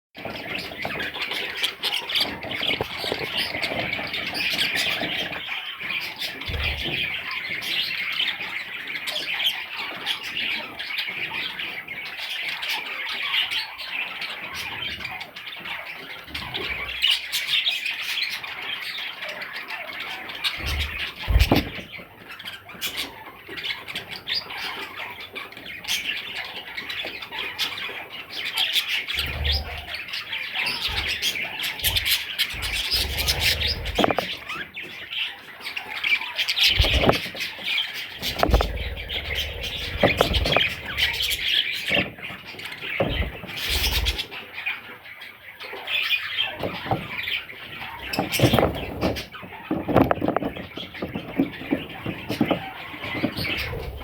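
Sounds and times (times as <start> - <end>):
budgerigars chattering: 0.2 - 54.0.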